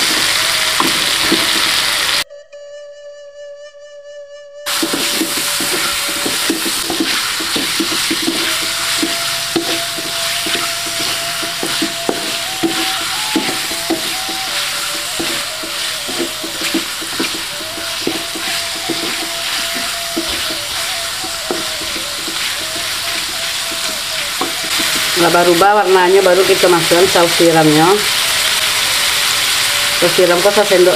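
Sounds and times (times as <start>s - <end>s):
food sizzling in oil: 0.0s - 2.2s, 4.7s - 30.9s
wooden spatula scraping wok: 4.7s - 30.9s.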